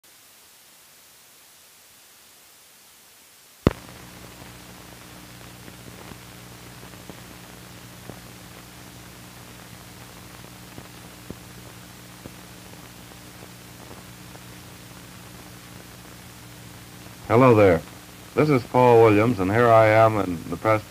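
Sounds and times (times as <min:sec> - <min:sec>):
faint crackles and pops: 0:00.0 - 0:20.9
film hiss: 0:00.0 - 0:20.9.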